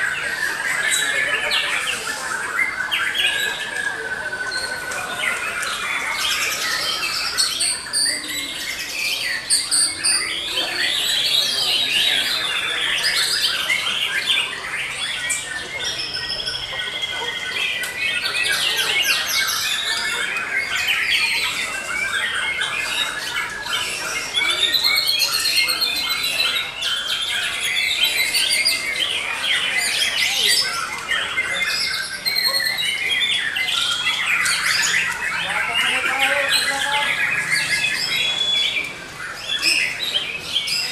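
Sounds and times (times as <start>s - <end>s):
songbirds singing trills and whistles: 0.0s - 40.9s.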